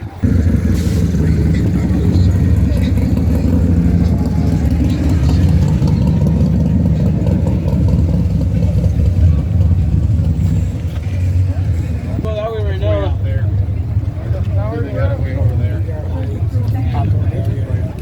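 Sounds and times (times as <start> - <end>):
car engine with deep exhaust: 0.0 - 18.0.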